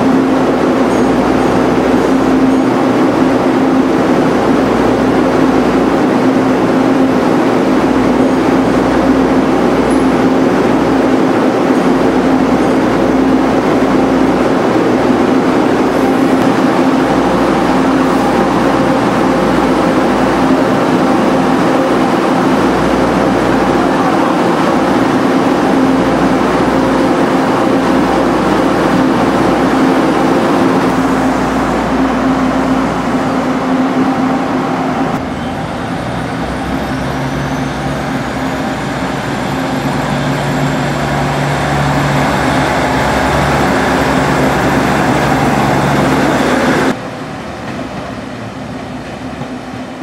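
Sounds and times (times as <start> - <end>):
diesel railcar engine droning: 0.0 - 50.0.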